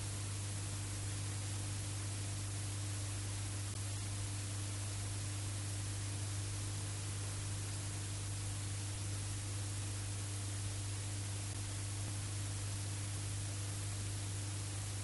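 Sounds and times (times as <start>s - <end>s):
low mains hum: 0.0s - 15.0s
tape hiss: 0.0s - 15.0s.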